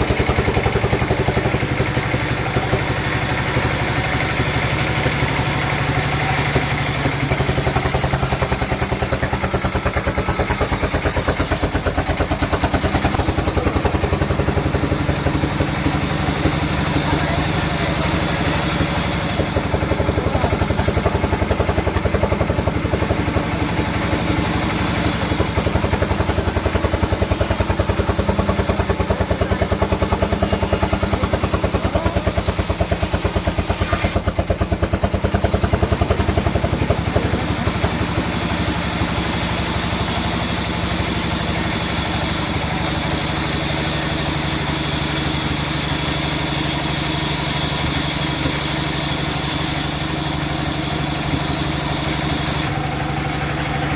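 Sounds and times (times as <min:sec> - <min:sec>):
engine running with pulsing beat: 0:00.0 - 0:53.9.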